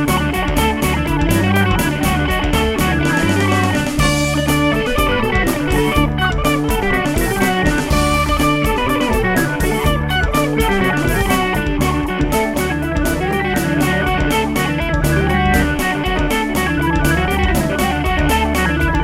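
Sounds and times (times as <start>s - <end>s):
bass guitar: 0.0s - 19.0s
drum kit steady beat: 0.0s - 19.0s
electric guitar: 0.0s - 19.0s.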